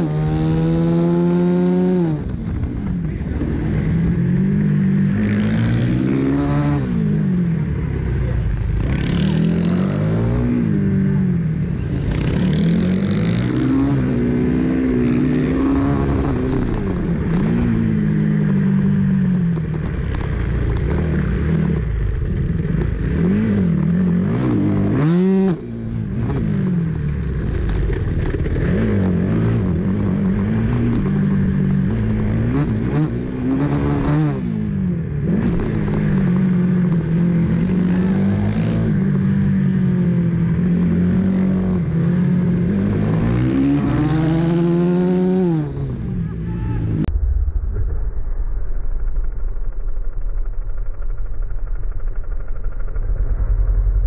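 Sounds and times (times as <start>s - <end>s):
motorcycle engine revving: 0.0s - 47.1s, 49.0s - 54.0s.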